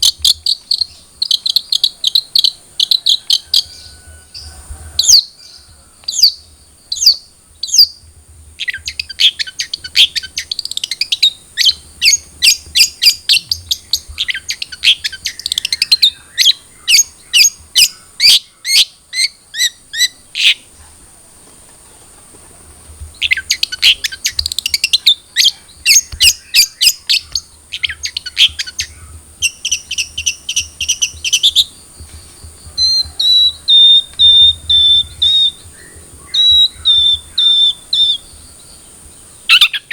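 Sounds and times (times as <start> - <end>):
shrike singing chattering song: 0.0 - 20.8, 23.0 - 39.9.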